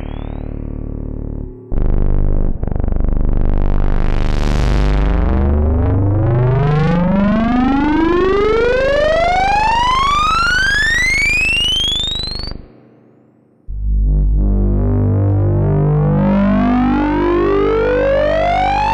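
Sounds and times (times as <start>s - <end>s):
buzzy synthesizer tone sweeping upward: 0.0s - 12.7s, 13.7s - 18.9s.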